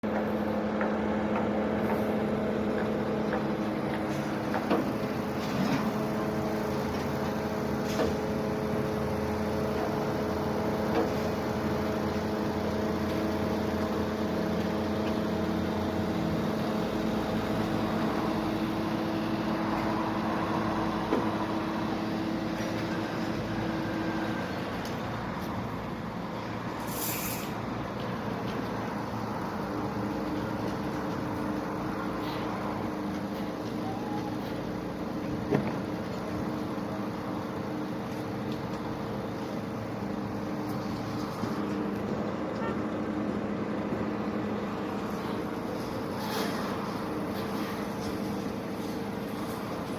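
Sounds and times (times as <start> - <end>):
crane engine running: 0.0 - 49.9.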